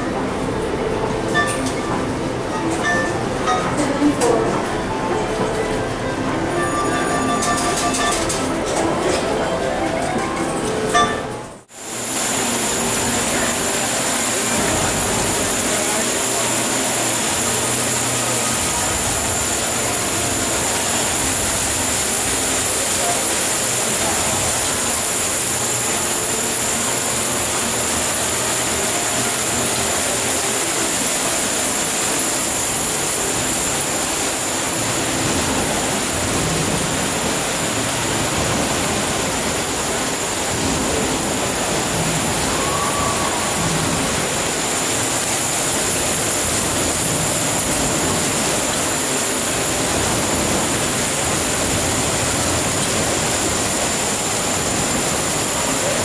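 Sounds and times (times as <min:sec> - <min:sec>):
dense indoor crowd noise: 0:00.0 - 0:56.0
steady high-pitched whine: 0:00.0 - 0:56.0.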